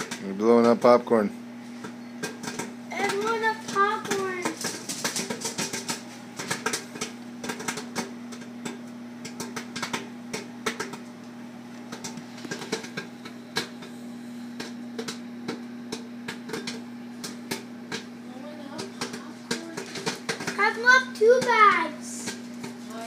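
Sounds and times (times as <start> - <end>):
microwave oven hum: 0.0 - 23.0
popcorn popping: 0.0 - 23.0.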